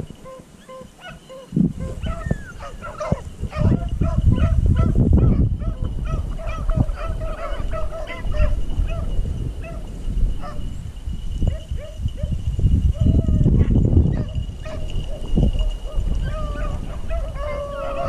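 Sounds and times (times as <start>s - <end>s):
dogs baying: 0.1s - 10.7s, 11.5s - 12.4s, 13.0s - 18.0s.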